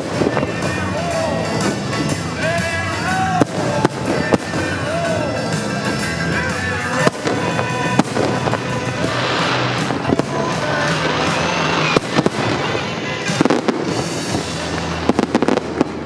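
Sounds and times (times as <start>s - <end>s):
fireworks crackling and banging: 0.0s - 16.0s
music soundtrack: 0.0s - 16.0s.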